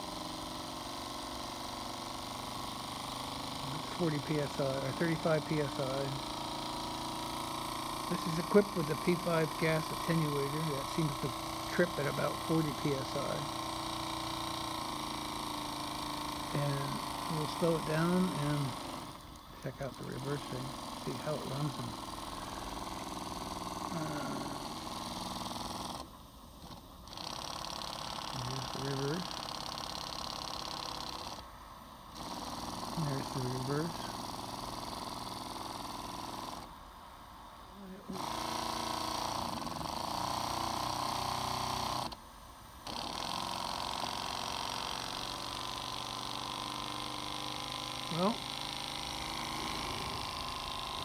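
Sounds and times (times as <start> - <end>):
model steam engine running: 0.0 - 31.4, 32.1 - 36.7, 37.8 - 42.2, 42.8 - 51.0.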